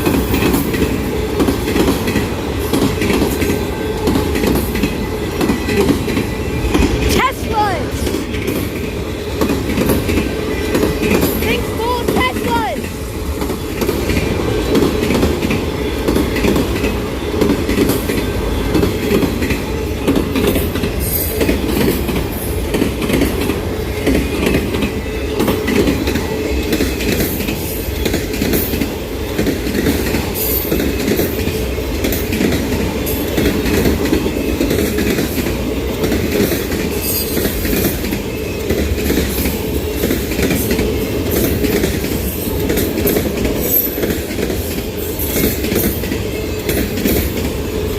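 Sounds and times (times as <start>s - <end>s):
steel wheels rumbling on rail: 0.0s - 47.9s.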